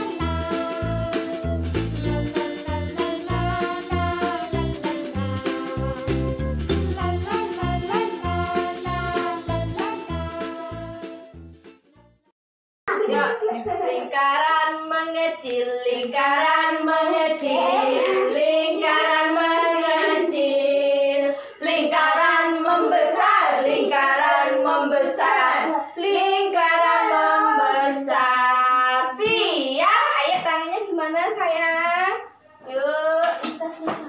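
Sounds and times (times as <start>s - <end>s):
children singing: 0.0s - 11.1s, 12.9s - 29.7s
woman singing: 0.0s - 11.1s, 13.1s - 30.5s.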